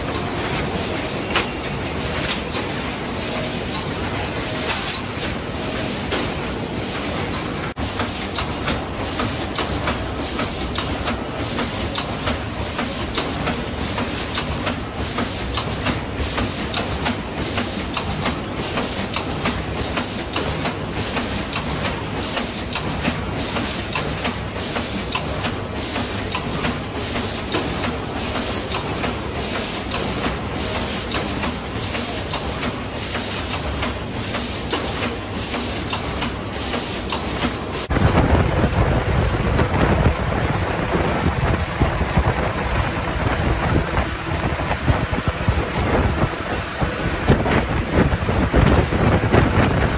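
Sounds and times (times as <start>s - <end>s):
machine mechanical clatter: 0.0s - 49.9s.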